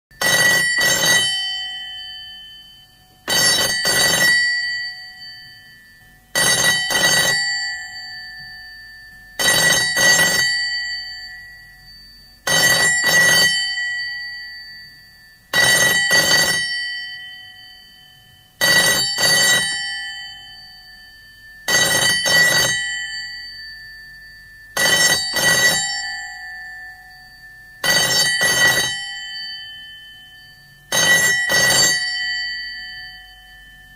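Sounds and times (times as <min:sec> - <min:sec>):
telephone bell ringing in double rings: 0:00.2 - 0:23.9, 0:24.7 - 0:33.9.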